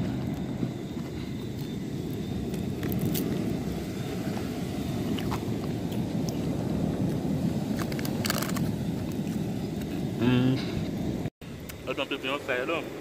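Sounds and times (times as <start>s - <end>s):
low rumble of beach ambience: 0.0s - 13.0s.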